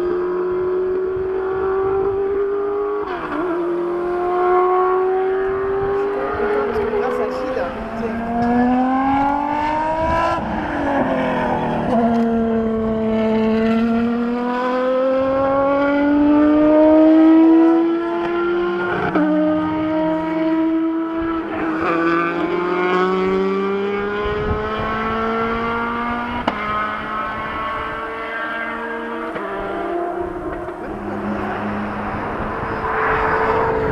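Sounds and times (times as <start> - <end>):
high-revving car engine accelerating: 0.0 - 33.9.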